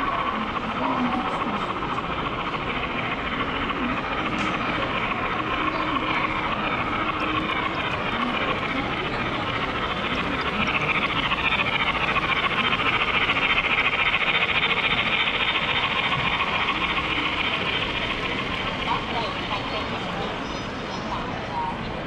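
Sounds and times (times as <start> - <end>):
model trains running on tracks: 0.0 - 22.0.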